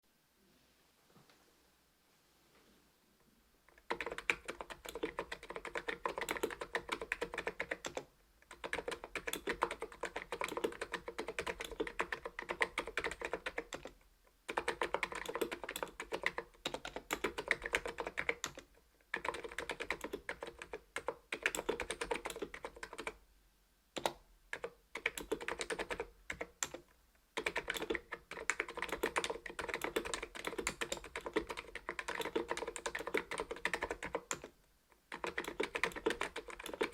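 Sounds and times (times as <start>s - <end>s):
keyboard typing: 3.7s - 23.2s, 24.0s - 36.9s.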